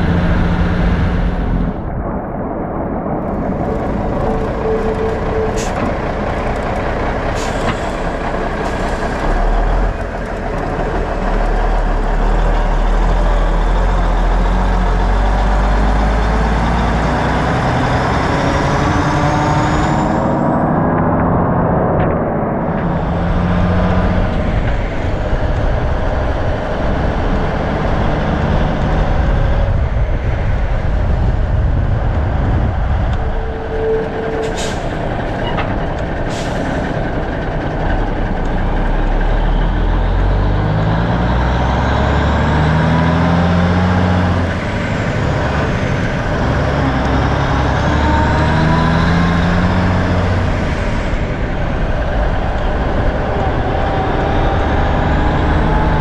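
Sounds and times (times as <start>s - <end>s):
road noise: 0.0s - 56.0s
truck diesel engine: 0.0s - 56.0s.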